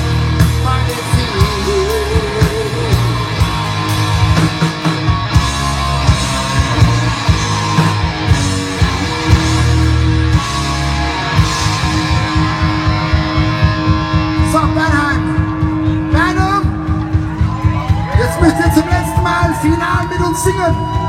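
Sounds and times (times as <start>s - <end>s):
bass line: 0.0s - 21.0s
drums beating: 0.0s - 21.0s
guitar: 0.0s - 21.0s.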